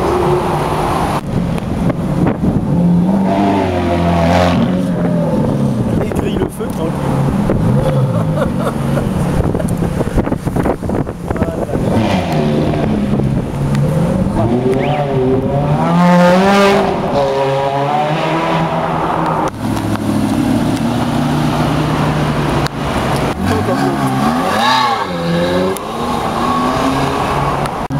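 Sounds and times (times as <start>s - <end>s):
sports car engines revving: 0.0s - 27.9s.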